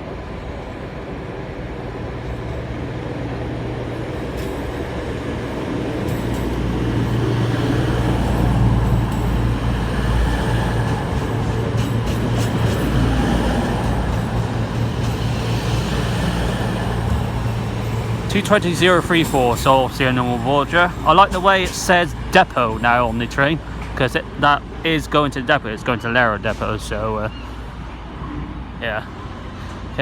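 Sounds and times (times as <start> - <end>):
train diesel engines humming: 0.0 - 30.0.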